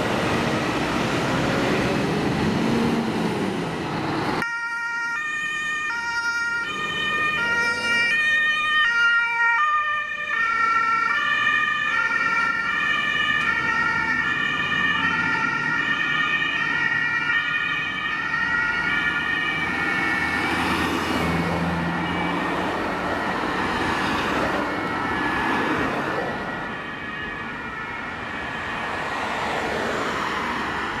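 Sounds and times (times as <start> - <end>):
engine and road noise: 0.0 - 31.0
two-tone emergency sirens: 4.3 - 31.0.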